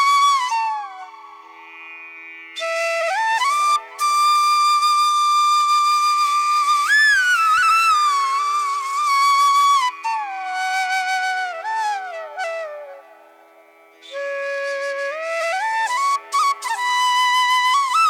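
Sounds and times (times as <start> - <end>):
solo flute melody: 0.0 - 1.8, 2.6 - 18.0.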